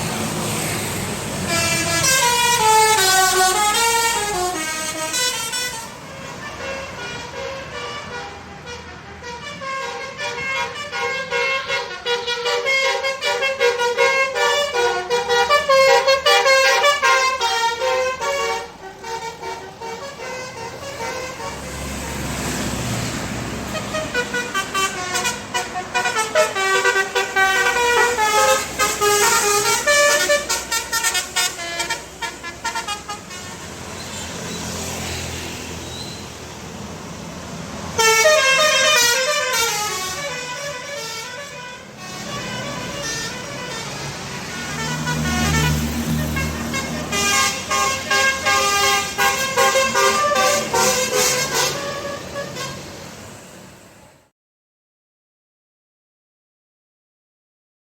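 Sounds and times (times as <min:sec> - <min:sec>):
multi-tone musical bus horn: 0:00.0 - 0:36.4, 0:37.9 - 0:54.3
bus engine rumbling past: 0:00.0 - 0:54.3.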